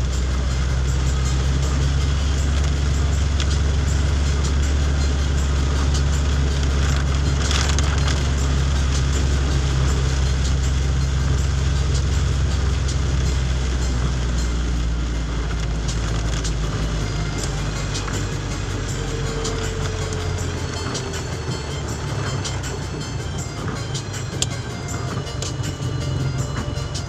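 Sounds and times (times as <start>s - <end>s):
heavy rain on wet road: 0.0s - 27.0s
vehicle driving rumble: 0.0s - 27.0s.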